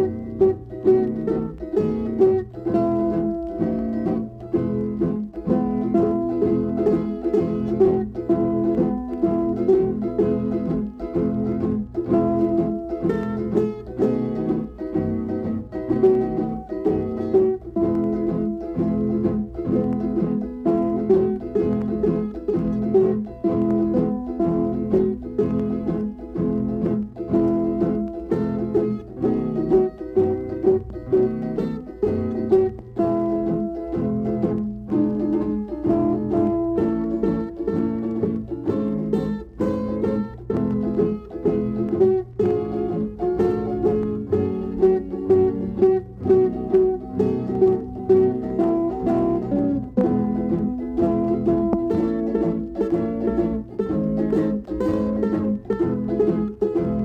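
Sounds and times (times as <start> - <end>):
plucked string ensemble music: 0.0 - 57.0.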